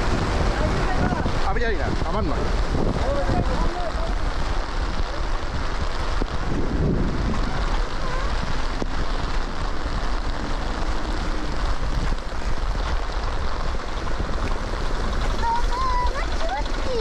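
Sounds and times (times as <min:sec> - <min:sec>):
heavy rain on umbrella and road: 0:00.0 - 0:17.0
wind rumbling on microphone: 0:00.0 - 0:17.0.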